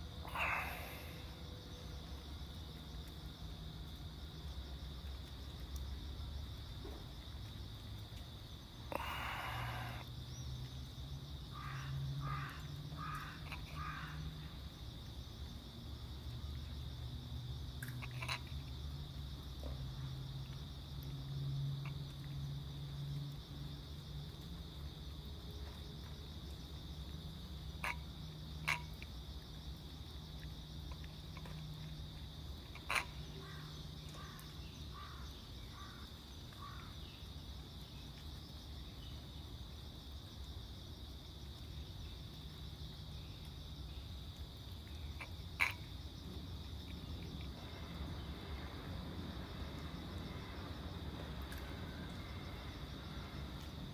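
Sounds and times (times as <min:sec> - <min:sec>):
crickets trilling: 0:00.0 - 0:53.9.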